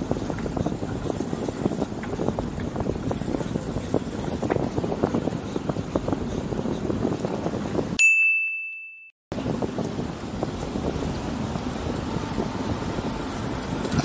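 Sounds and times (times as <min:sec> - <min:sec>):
bicycle ticks and rattles: 0:00.0 - 0:08.0, 0:09.3 - 0:14.0
traffic: 0:00.0 - 0:08.0, 0:09.3 - 0:14.0
wind on microphone: 0:00.0 - 0:08.0, 0:09.3 - 0:14.0.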